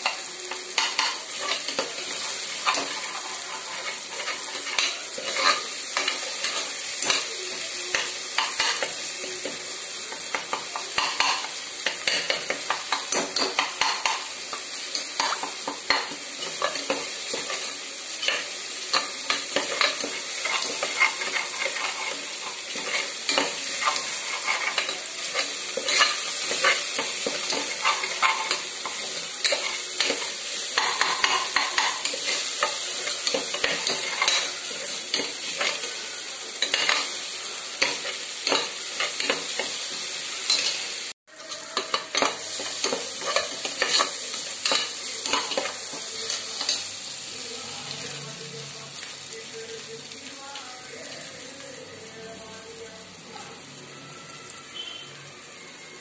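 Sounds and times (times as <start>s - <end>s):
chicken sizzling in pot: 0.0s - 56.0s.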